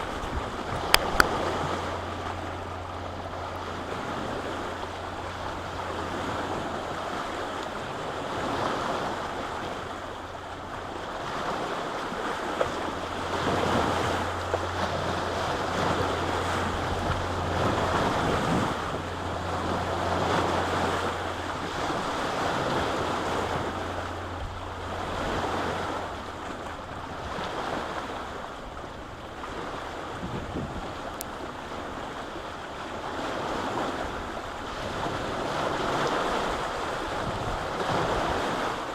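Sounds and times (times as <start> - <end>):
lake waves washing onto shore: 0.0 - 38.9
steady low hum: 0.0 - 38.9.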